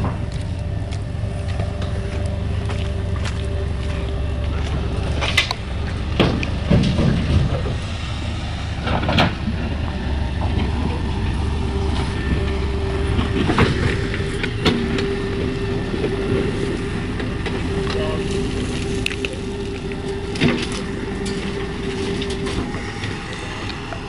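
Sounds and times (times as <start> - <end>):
diesel engine rumbling: 0.0 - 24.0
digger bucket clanking and scraping: 1.5 - 24.0.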